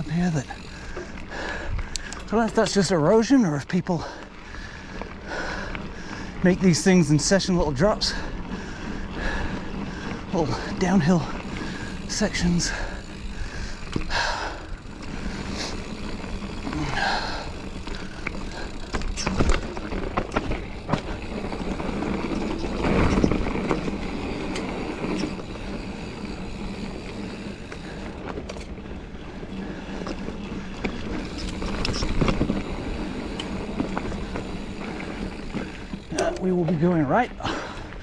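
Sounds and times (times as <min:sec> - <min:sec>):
bike tyre and drivetrain noise: 0:00.0 - 0:38.0.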